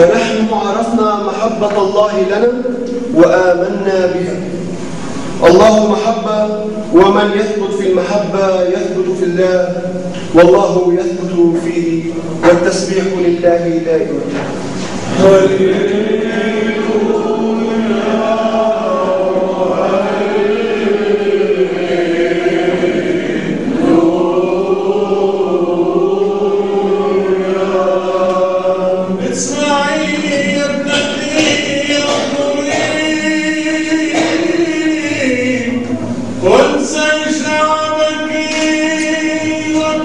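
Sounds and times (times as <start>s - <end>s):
voices chanting a hymn: 0.0s - 40.0s.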